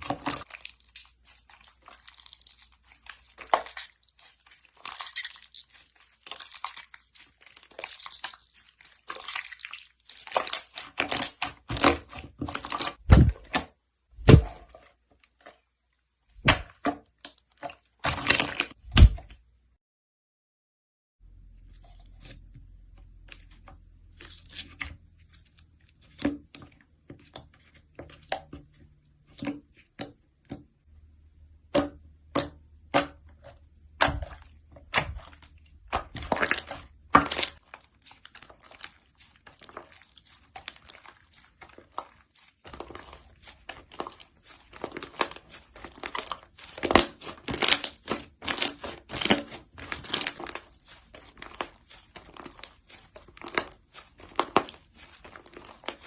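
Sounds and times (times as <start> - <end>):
slime squishing and crackling: 0.0 - 19.4, 21.7 - 30.2, 32.3 - 56.0.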